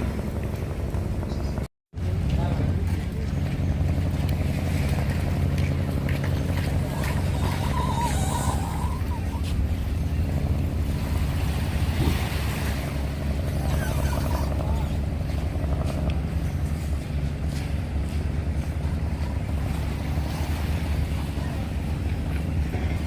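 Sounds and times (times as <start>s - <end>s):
ferry engine humming: 0.0s - 23.0s
water noise: 0.0s - 23.0s
wind: 0.0s - 23.0s.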